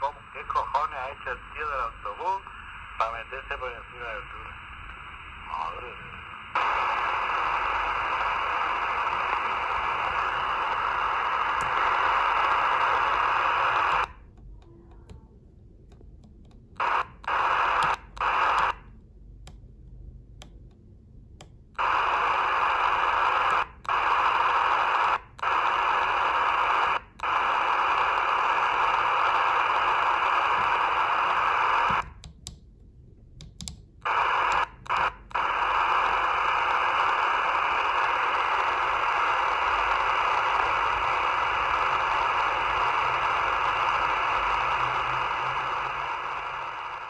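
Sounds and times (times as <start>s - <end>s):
radio static hiss: 0.0s - 14.3s, 16.8s - 18.9s, 21.8s - 32.2s, 34.0s - 47.0s.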